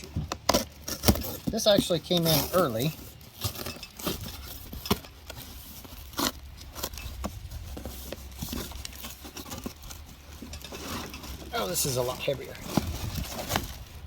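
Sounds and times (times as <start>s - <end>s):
cardboard box handled: 0.0s - 14.0s
cardboard tearing: 0.0s - 14.0s.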